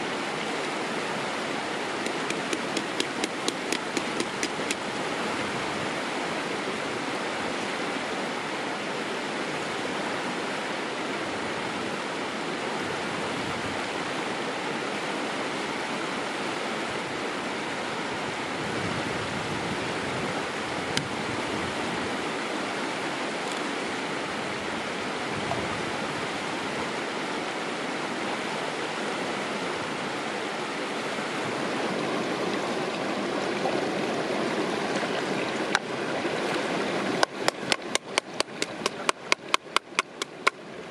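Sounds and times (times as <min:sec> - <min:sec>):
stream rippling over stones: 0:00.0 - 0:40.9.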